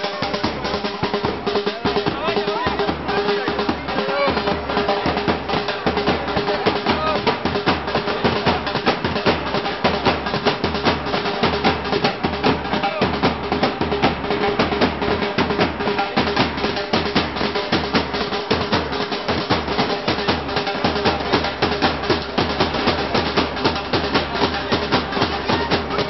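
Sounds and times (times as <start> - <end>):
fast steady drumming: 0.0 - 26.0.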